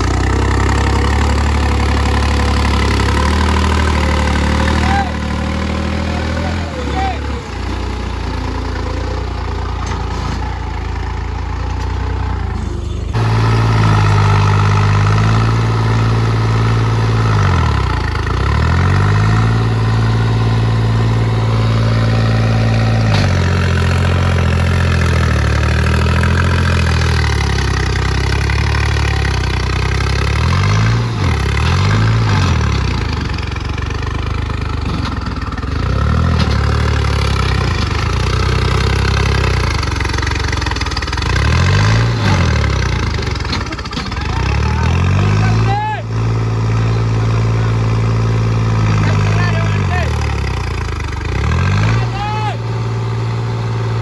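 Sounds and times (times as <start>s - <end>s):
tractor diesel engine labouring: 0.0s - 54.0s.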